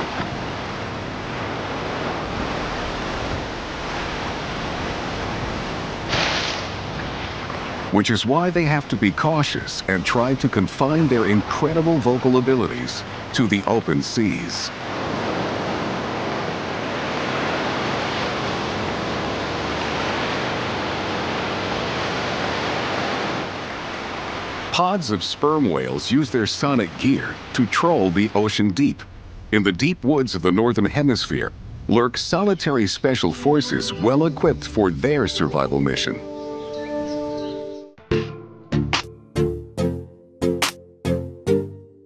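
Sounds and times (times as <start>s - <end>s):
ocean surf washing in: 0.0s - 36.4s.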